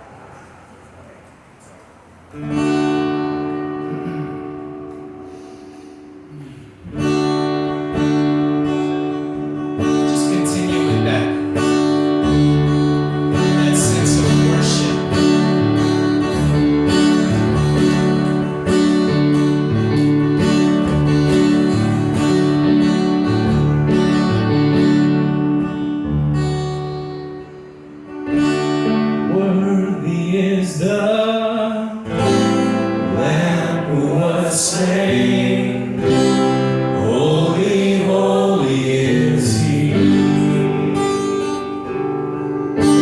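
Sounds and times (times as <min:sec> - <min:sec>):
worship music with acoustic guitar: 0:00.0 - 0:43.0.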